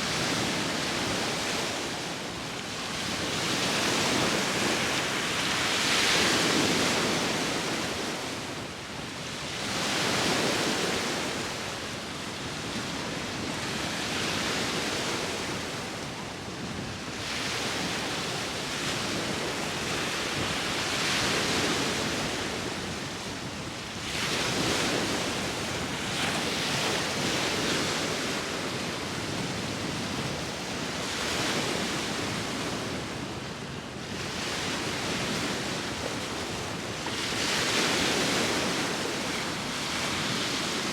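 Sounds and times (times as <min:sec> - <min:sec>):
sea waves breaking on shore: 0:00.0 - 0:40.9
wind: 0:00.0 - 0:40.9.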